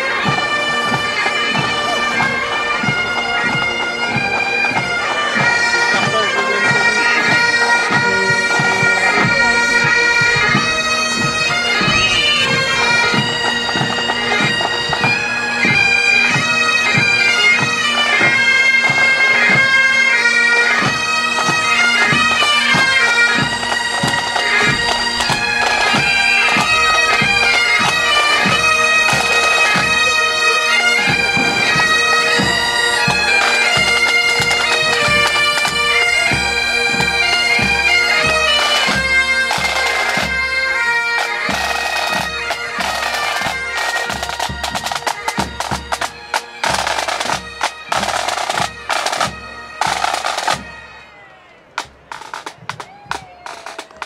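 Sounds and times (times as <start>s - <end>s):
bagpipes playing over drones: 0.0s - 54.0s
snare and bass drums march beat: 0.2s - 19.9s, 20.6s - 50.8s, 51.7s - 54.0s.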